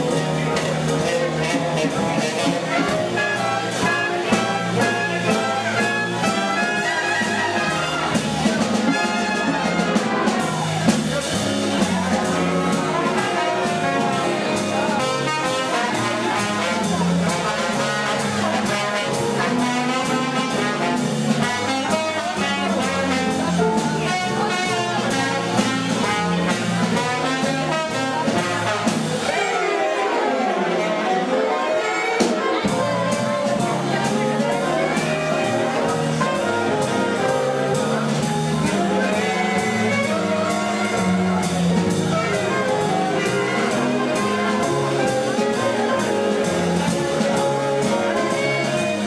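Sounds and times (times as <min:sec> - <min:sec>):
big band swing jazz: 0:00.0 - 0:49.0
trombone solo: 0:00.0 - 0:49.0.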